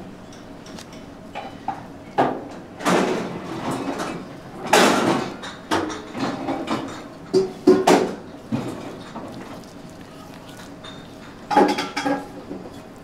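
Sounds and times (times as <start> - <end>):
busy kitchen clatter: 0.2 - 13.0.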